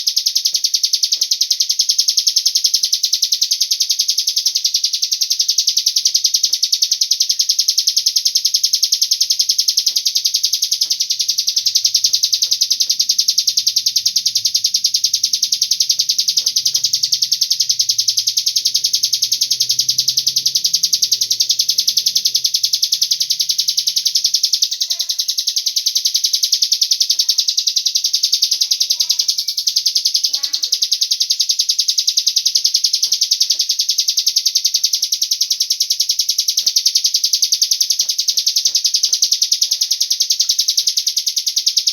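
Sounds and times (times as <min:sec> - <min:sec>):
rapid high-pitched bird trill: 0:00.0 - 0:41.9.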